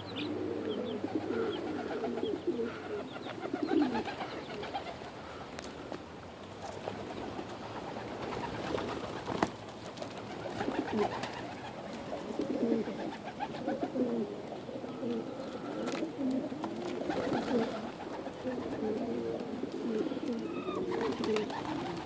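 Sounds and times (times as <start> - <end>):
pigeons cooing: 0.0 - 6.0, 6.6 - 22.0.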